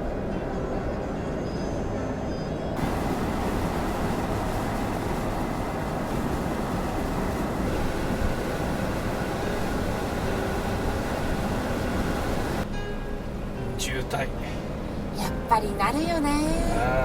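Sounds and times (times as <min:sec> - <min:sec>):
vehicle road noise rumble: 0:00.0 - 0:17.0.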